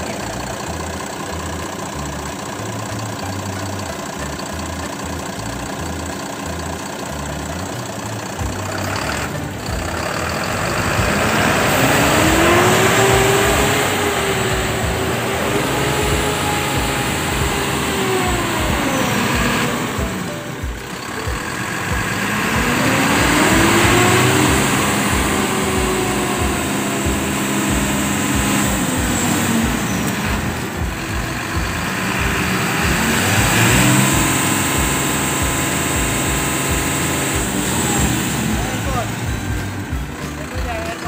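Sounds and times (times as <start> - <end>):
diesel truck engine idling and revving: 0.0 - 41.0.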